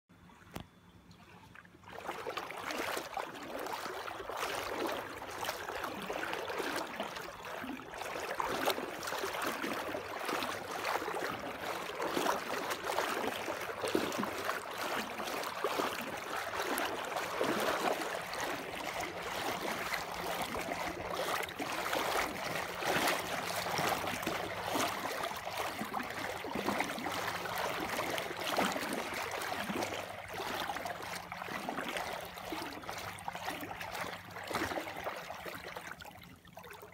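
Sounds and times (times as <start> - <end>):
water rushing and gurgling: 1.9 - 35.8.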